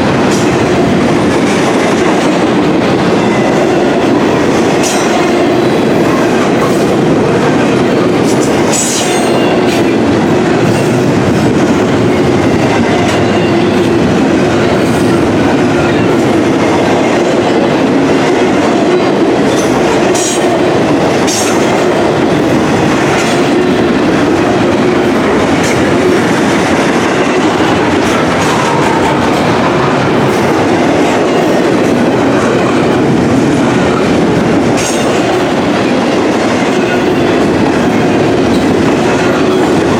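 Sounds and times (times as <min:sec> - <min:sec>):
freight train rumbling past: 0:00.0 - 0:39.9
wheels clickety-clack on rails: 0:00.0 - 0:39.9.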